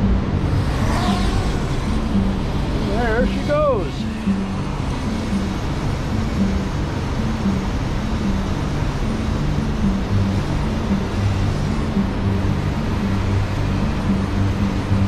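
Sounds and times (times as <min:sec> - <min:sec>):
bass notes of background music: 0:00.0 - 0:15.0
river rushing through rapids: 0:00.2 - 0:15.0.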